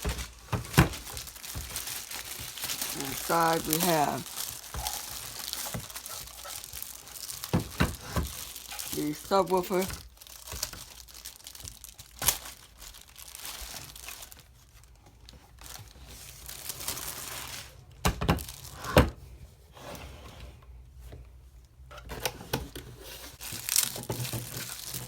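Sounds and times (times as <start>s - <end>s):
packaging crinkling and tearing: 0.0s - 18.9s, 23.3s - 25.0s.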